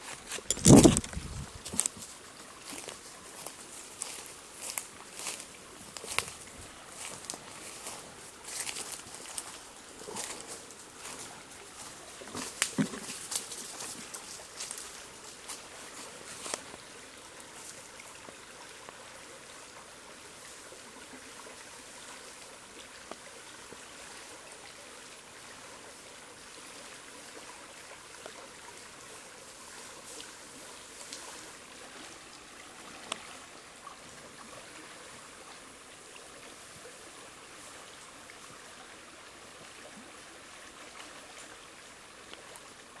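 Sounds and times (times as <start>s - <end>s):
stream flowing over stones: 0.0s - 43.0s.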